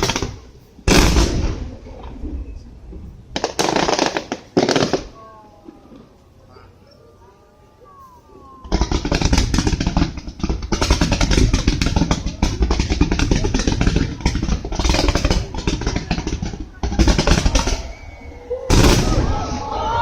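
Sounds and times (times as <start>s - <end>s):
fireworks bangs and crackling: 0.0s - 5.3s, 8.6s - 20.0s.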